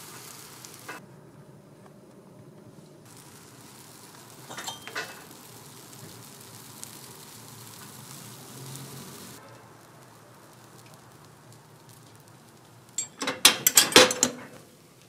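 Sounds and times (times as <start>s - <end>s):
batter sizzling in hot molds: 0.0s - 1.0s, 2.8s - 15.0s.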